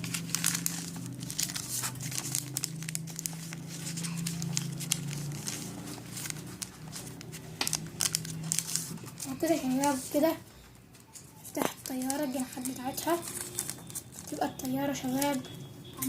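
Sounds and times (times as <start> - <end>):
paper being folded and creased: 0.0 - 10.4, 11.0 - 14.5.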